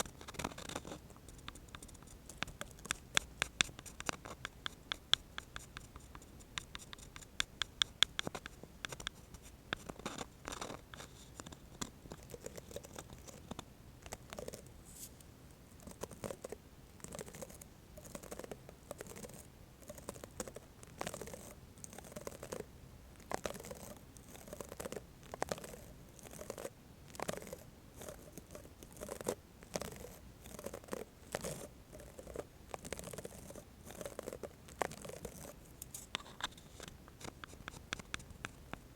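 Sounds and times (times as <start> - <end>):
spatula scratching and tapping: 0.0 - 14.6, 15.8 - 22.6, 23.3 - 38.9.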